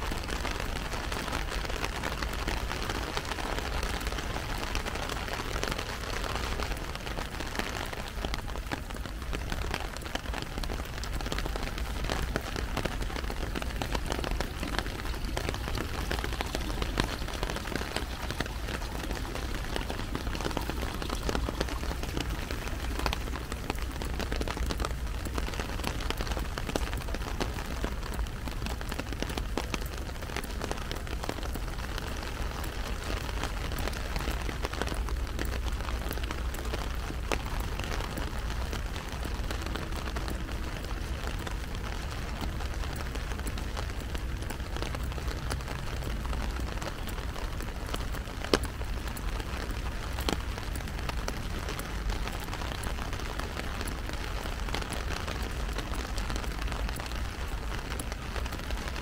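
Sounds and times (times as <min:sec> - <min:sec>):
heavy rain on an umbrella: 0:00.0 - 0:59.0.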